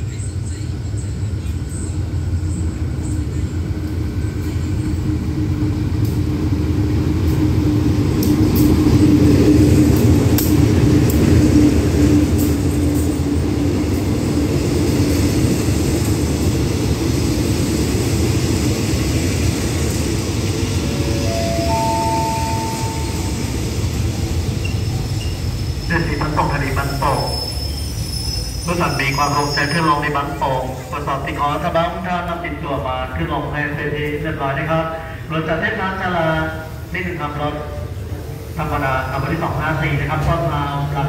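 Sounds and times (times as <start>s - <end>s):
diesel locomotive rumble: 0.0s - 41.0s
train coaches rolling past: 0.0s - 41.0s.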